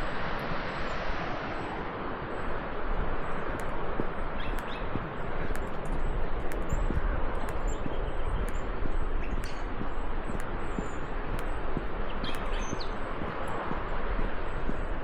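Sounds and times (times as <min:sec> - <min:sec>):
steady rushing noise: 0:00.0 - 0:15.0
small birds chirping: 0:02.3 - 0:15.0.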